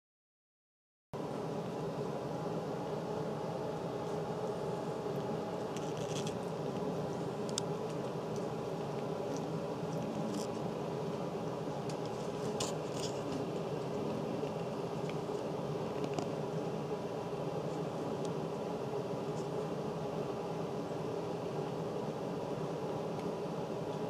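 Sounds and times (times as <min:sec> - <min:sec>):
room hum: 0:01.2 - 0:24.0.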